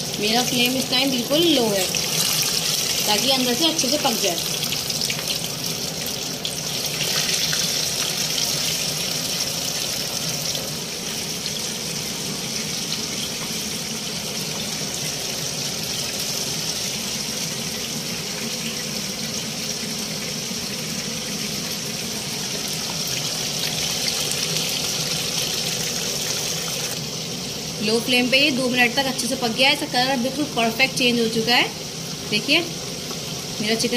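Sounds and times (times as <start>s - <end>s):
chicken deep-frying in oil: 0.0s - 33.9s.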